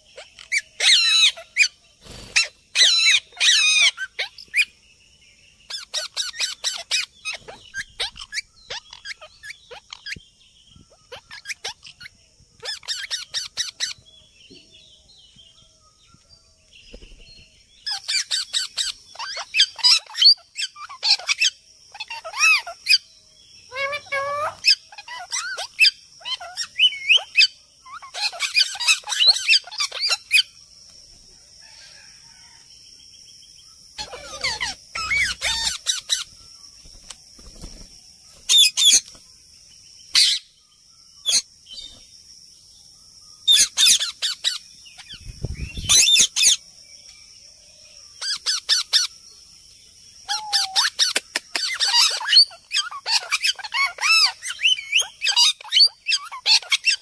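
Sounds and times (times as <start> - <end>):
birds calling and chirping: 0.0 - 57.0.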